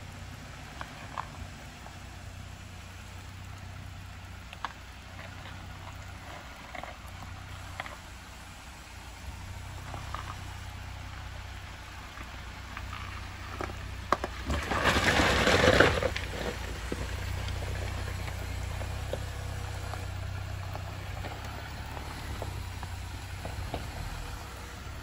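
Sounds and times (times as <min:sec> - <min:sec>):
low engine hum: 0:00.0 - 0:25.0
stones crunching under tyres: 0:00.0 - 0:25.0.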